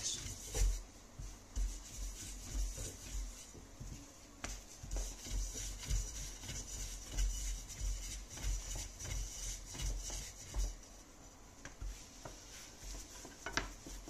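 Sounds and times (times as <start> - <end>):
rolling pin rolling over dough: 0.0 - 14.0
soft thumps of rolling pin: 0.0 - 14.0.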